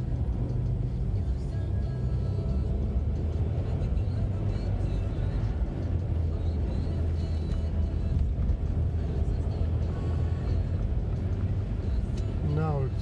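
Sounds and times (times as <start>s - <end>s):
car cabin road and engine noise: 0.0s - 13.0s.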